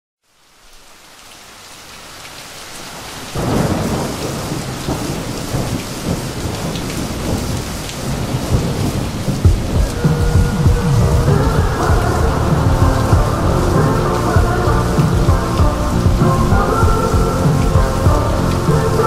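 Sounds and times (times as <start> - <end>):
steady rain: 0.2 - 19.0
deep thunder rumble: 3.4 - 19.0.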